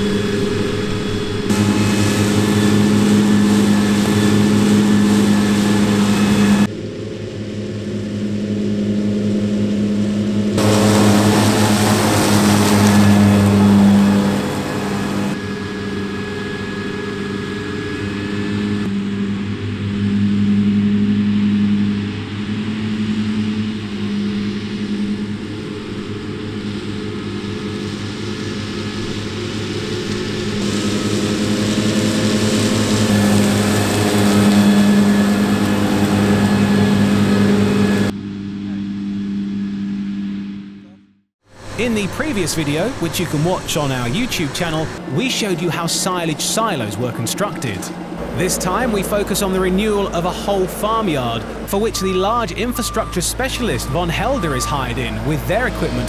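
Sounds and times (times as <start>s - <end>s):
mower engine droning: 0.0s - 56.0s.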